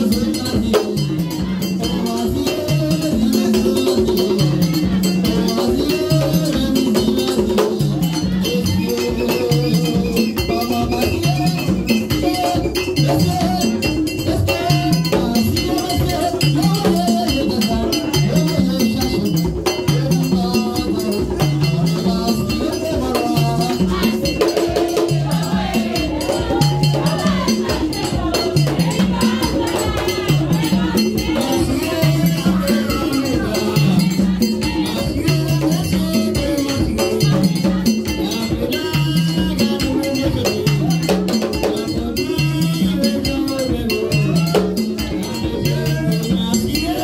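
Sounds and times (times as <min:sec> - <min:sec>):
drumming and percussion: 0:00.0 - 0:47.0
metal bell beat: 0:00.0 - 0:47.0
women singing a chant: 0:00.0 - 0:47.0.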